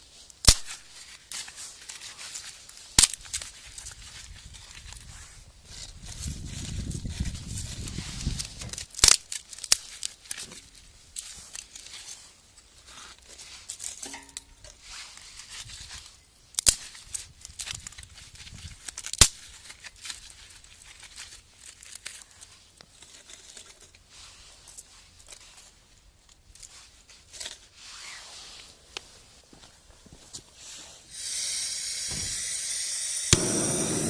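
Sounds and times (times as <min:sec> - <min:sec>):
dry material crinkling and tearing: 0:00.1 - 0:14.0, 0:14.8 - 0:29.2.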